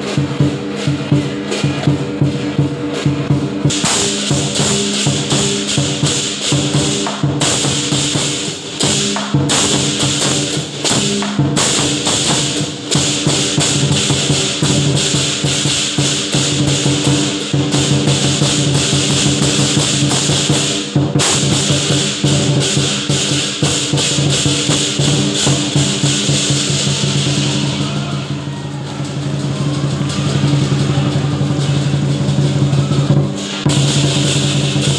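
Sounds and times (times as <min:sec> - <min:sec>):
big drum beating rapidly: 0:00.0 - 0:34.9
clashing cymbals: 0:00.0 - 0:34.9.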